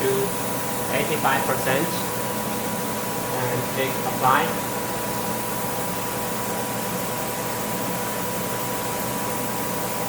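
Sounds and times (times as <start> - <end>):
ventilation fan hiss and hum: 0.0 - 10.0.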